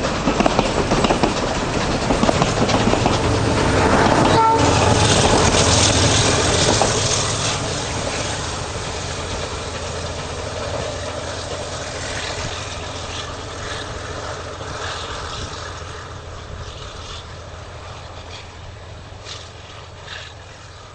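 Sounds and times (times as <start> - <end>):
train engine and wheel noise: 0.0 - 20.9.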